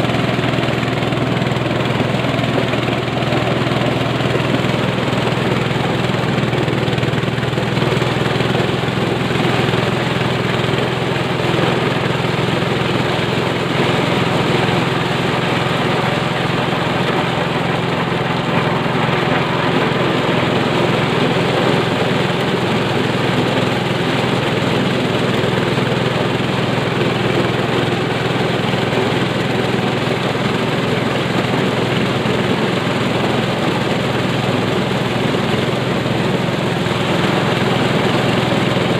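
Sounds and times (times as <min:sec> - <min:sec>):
corn sheller mechanical noise: 0:00.0 - 0:38.9
engine hum: 0:00.0 - 0:38.9.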